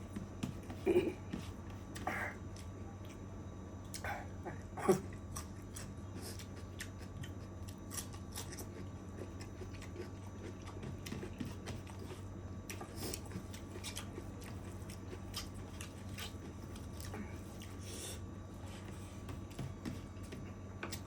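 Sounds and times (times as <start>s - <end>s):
person chewing food: 3.8s - 21.0s.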